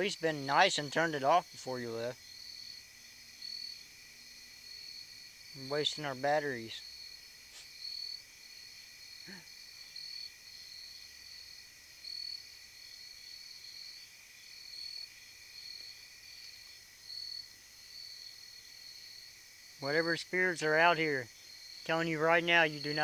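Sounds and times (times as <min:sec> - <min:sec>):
crickets chirping: 0:00.0 - 0:23.0
insect drone: 0:00.0 - 0:23.0.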